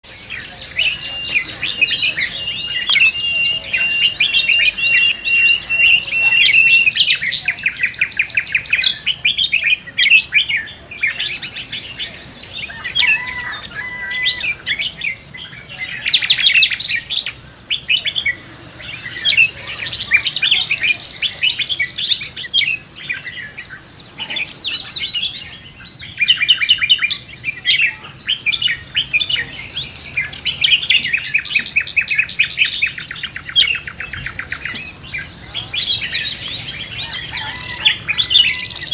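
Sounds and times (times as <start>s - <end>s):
rapid bird trills: 0.0s - 38.9s
songbirds singing: 0.0s - 38.9s.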